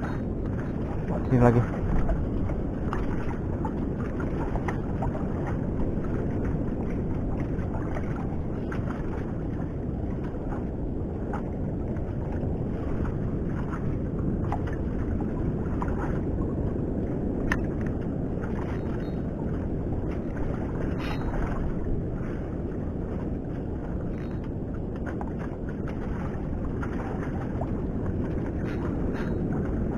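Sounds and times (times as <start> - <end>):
wind rumble on microphone: 0.0 - 29.9.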